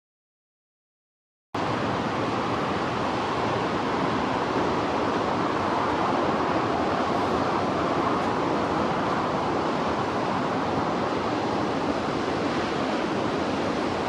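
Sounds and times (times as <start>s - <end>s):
heavy surf breaking on beach: 1.6s - 14.0s.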